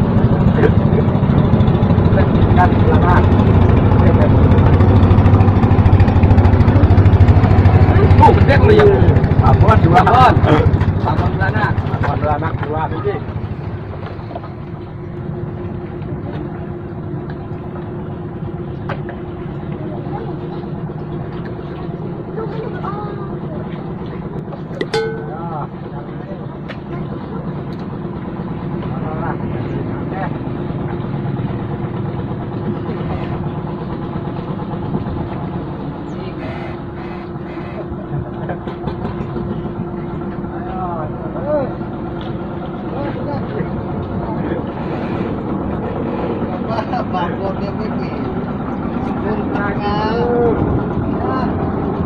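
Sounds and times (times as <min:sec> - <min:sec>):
boat engine rumbling: 0:00.0 - 0:52.0.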